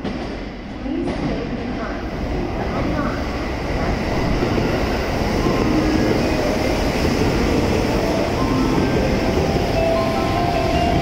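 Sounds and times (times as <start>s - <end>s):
train wheels rolling on rail: 0.0s - 11.0s.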